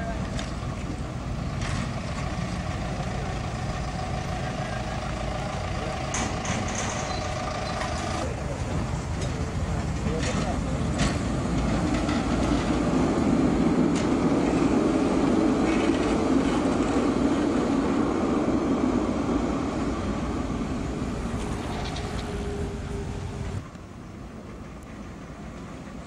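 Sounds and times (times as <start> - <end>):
distant rumble: 0.0 - 25.9
tram wheels rumbling on rails: 0.0 - 26.0.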